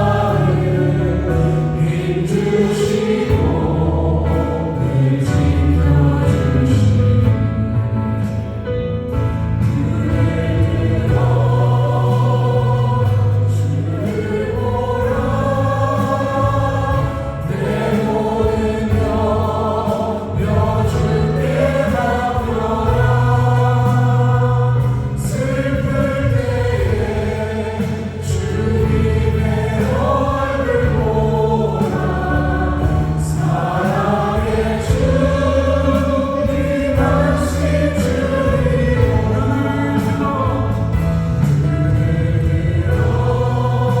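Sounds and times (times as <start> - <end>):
acoustic guitar: 0.0 - 44.0
drums: 0.0 - 44.0
group singing worship song: 0.0 - 44.0
keyboard chords: 0.0 - 44.0.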